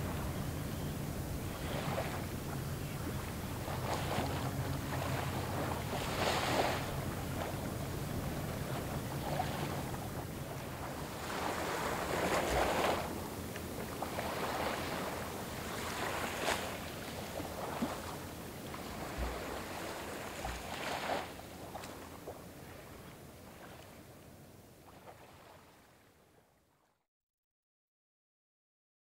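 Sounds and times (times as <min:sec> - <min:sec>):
small waves lapping: 0:00.0 - 0:26.5.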